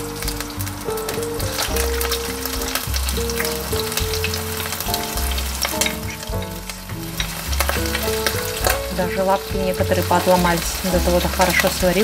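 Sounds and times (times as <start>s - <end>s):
background music low notes: 0.0s - 12.0s
food sizzling in a frying pan: 0.0s - 12.0s.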